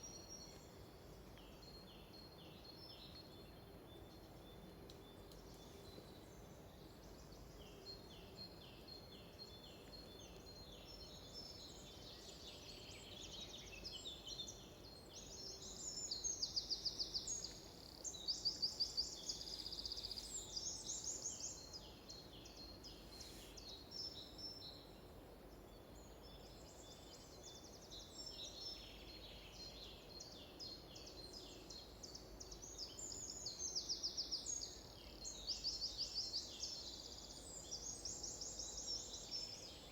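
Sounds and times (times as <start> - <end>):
faint background hiss: 0.0 - 39.9
songbirds singing trills: 0.0 - 39.9.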